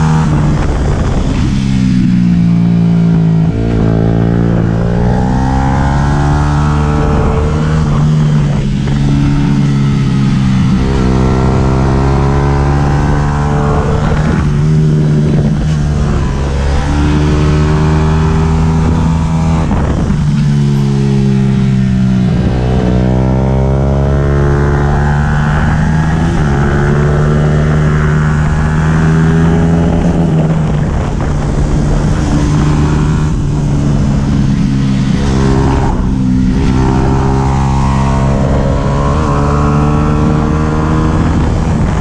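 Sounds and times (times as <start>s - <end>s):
motorcycle engine revving: 0.0s - 42.0s
wind rush: 0.0s - 42.0s.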